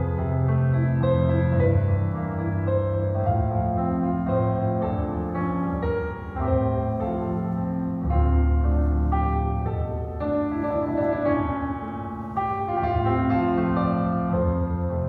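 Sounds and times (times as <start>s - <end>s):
solo piano music: 0.0s - 15.0s.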